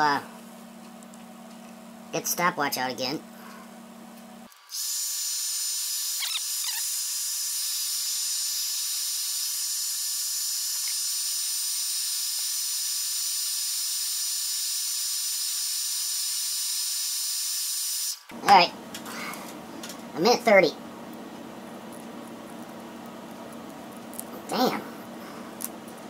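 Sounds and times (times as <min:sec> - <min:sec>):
hot-air blower hissing: 0:03.2 - 0:26.0.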